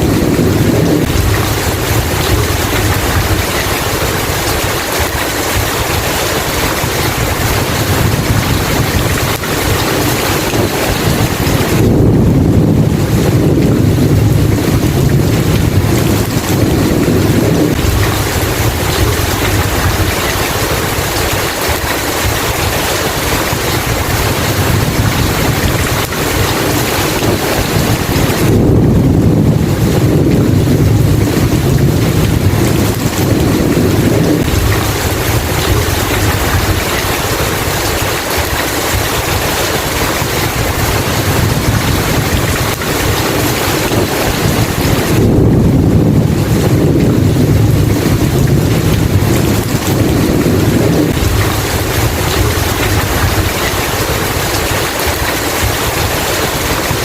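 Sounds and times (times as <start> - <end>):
heavy rain: 0.0 - 57.0
thunder rolling: 0.0 - 57.0.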